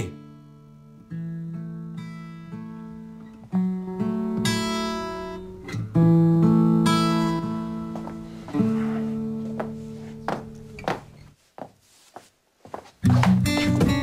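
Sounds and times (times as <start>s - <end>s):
acoustic guitar chords: 0.0s - 11.2s, 13.0s - 14.0s.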